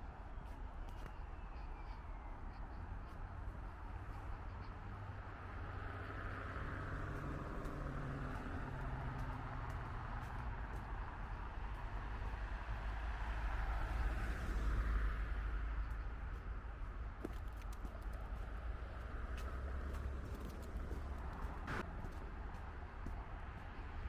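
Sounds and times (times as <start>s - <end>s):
tyre noise on road: 0.0s - 24.0s
vehicle engine hum: 0.0s - 24.0s.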